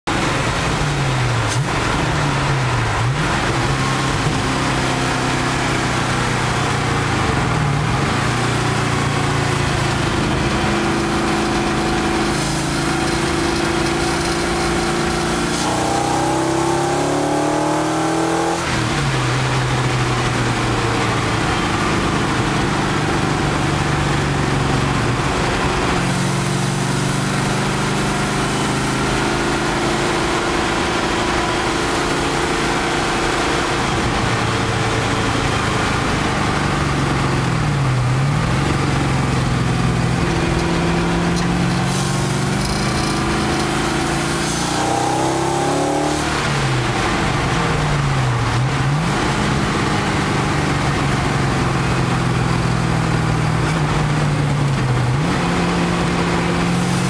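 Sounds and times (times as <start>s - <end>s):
car engine accelerating: 0.1s - 57.0s.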